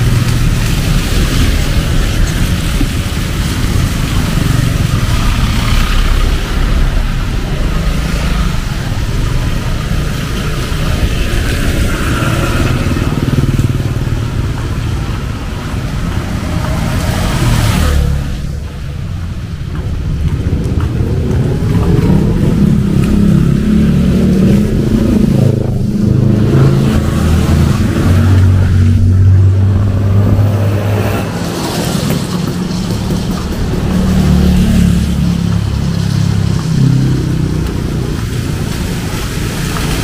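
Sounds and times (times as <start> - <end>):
car engines passing: 0.0 - 40.0
tyres hissing on wet road: 0.0 - 40.0.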